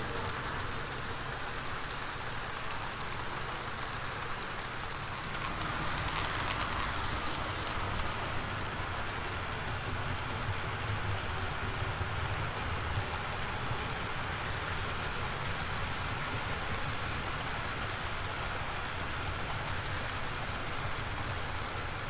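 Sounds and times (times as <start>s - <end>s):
model train wheels whirring: 0.0s - 22.0s.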